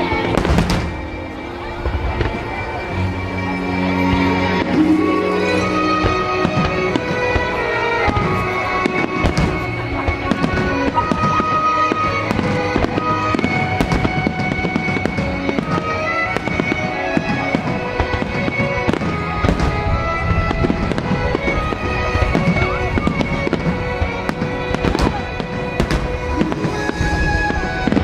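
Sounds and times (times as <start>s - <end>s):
fireworks bursting: 0.0s - 28.0s
music playing: 0.0s - 28.0s.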